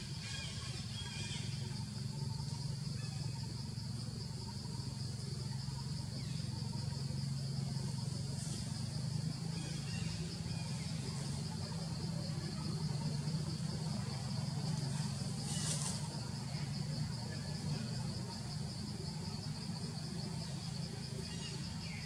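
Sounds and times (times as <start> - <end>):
insect chorus pulsing drone: 0.0 - 22.0
low steady hum: 0.0 - 22.0.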